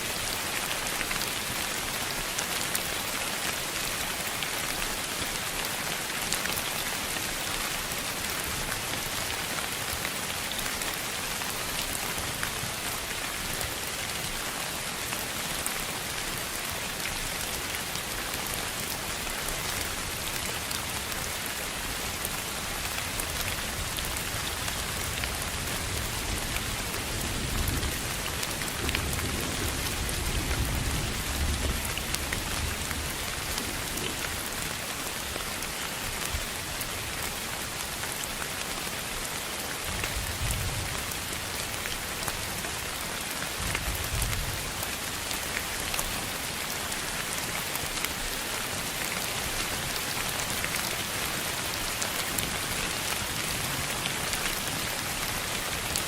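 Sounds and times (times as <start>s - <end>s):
rain hiss with pattering drops: 0.0s - 56.0s.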